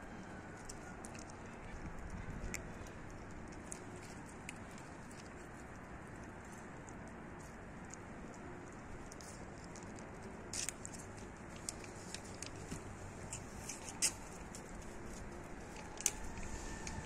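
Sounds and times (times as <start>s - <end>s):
kitten chewing crunchy food: 0.1s - 17.0s.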